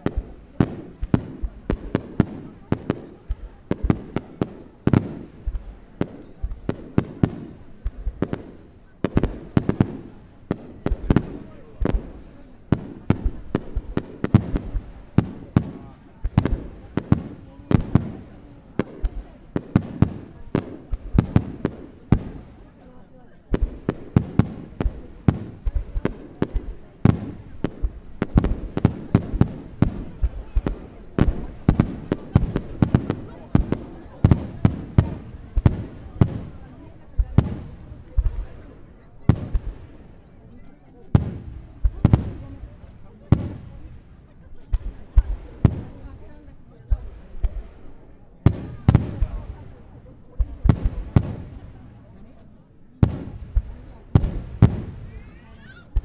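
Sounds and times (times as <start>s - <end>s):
fireworks bursting with sharp bangs: 0.0s - 56.0s
low rumble of fireworks: 0.0s - 56.0s.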